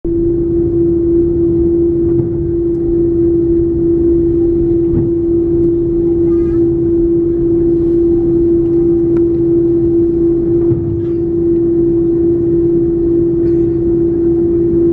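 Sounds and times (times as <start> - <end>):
jet engines humming at low thrust: 0.1 - 14.9.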